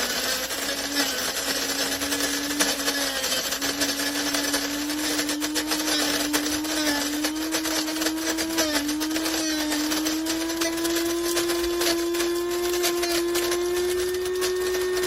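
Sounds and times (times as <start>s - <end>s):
coffee grinder motor hum: 0.0s - 15.0s
dense crackling: 0.0s - 15.0s.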